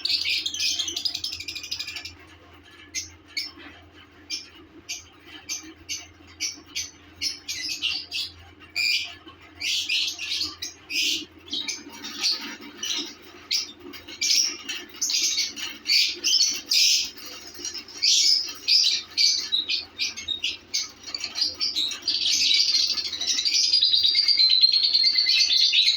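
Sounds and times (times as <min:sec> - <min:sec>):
lovebirds chirping and squawking: 0:00.0 - 0:25.9.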